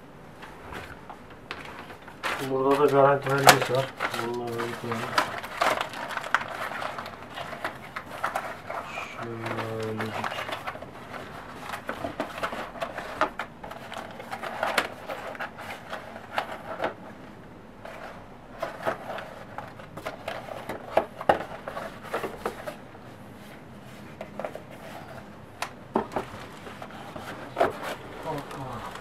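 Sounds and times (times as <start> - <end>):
cardboard packaging rustling: 0.3 - 29.0.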